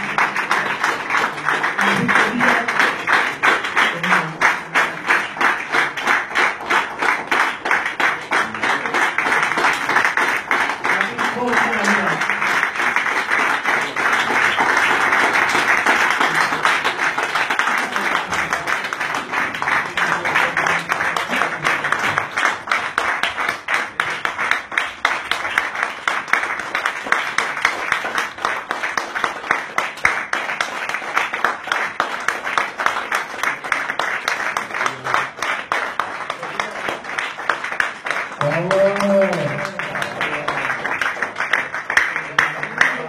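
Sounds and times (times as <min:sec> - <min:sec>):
audience applauding: 0:00.0 - 0:43.0.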